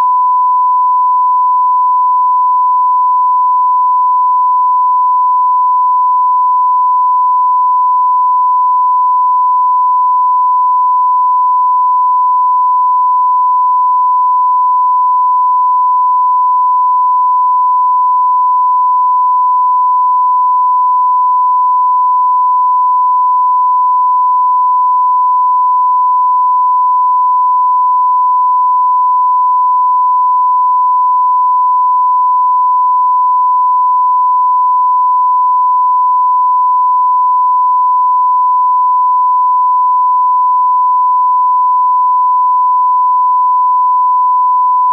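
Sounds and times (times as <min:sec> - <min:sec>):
steady test tone beep: 0:00.0 - 0:44.9.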